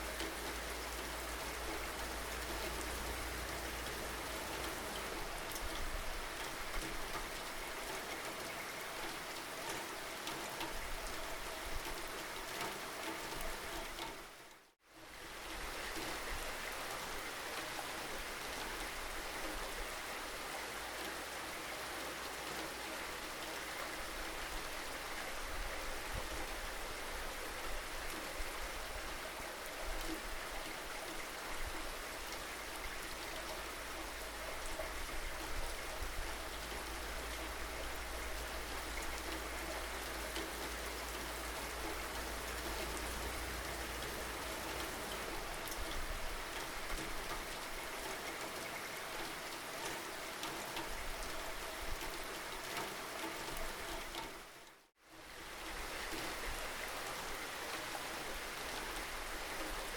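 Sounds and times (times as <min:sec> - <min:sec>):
steady rain with drop hits: 0:00.0 - 0:59.9.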